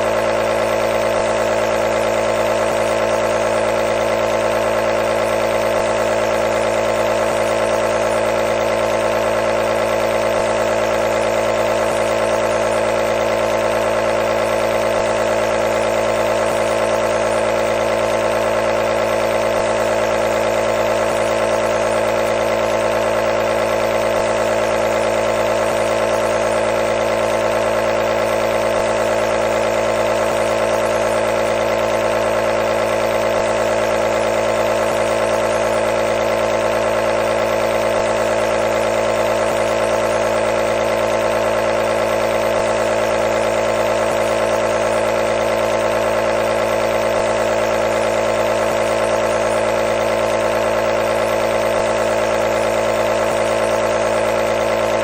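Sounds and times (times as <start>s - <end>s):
compressor nebulizer humming: 0.0s - 55.0s.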